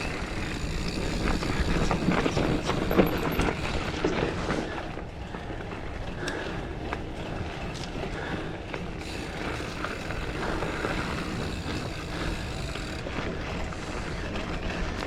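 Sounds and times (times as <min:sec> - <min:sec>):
faint bike clicks and rattles: 0:00.0 - 0:15.0
wind and tyre noise: 0:00.0 - 0:15.0.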